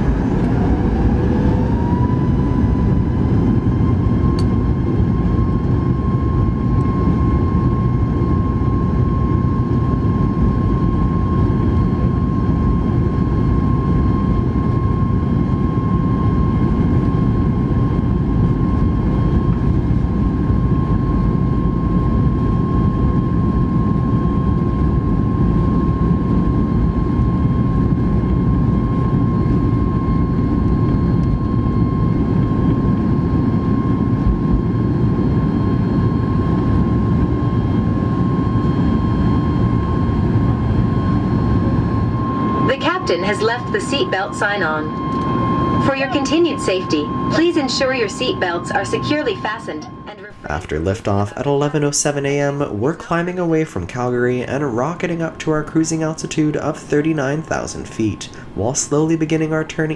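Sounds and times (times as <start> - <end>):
jet engine high whine: 0.0 - 59.9
jet engines rushing noise: 0.0 - 59.9.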